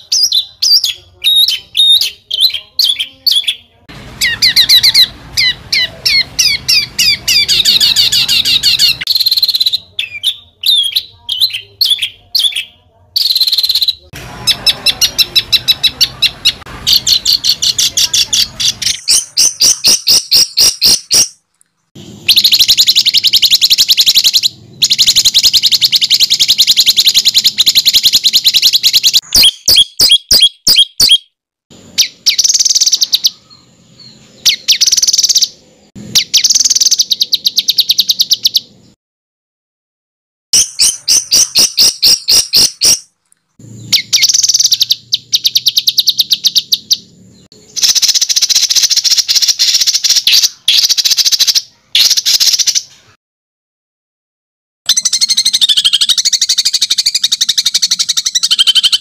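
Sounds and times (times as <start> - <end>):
songbird rapid harsh song: 0.0 - 39.0, 40.6 - 53.2, 54.9 - 59.0.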